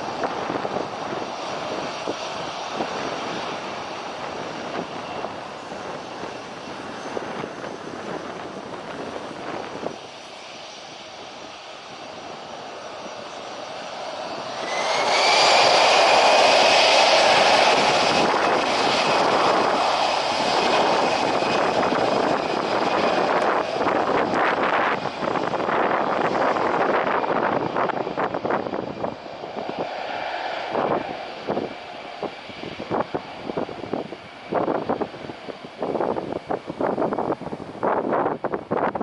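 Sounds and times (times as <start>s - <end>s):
aircraft passing with high whine: 0.0s - 39.0s
jet engines rumbling: 0.0s - 39.0s.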